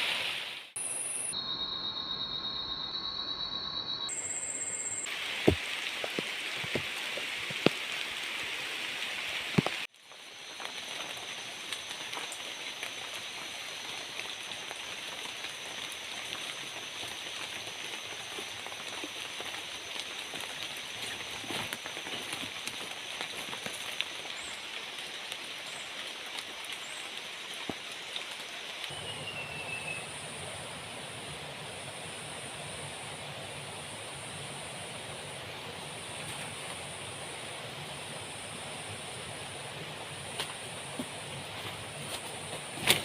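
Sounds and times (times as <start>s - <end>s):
loud sharp raindrops nearby: 0.0s - 1.3s, 5.1s - 43.0s
steady rain: 0.0s - 1.3s, 5.0s - 43.0s.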